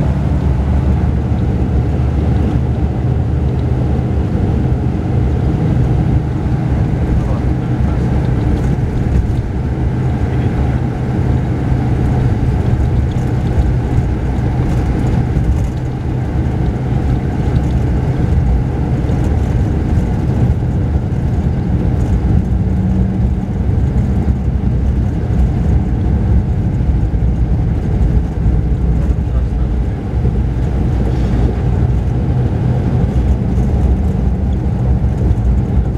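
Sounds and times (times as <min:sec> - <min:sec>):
bus diesel engine running: 0:00.0 - 0:35.9
road noise: 0:00.0 - 0:35.9.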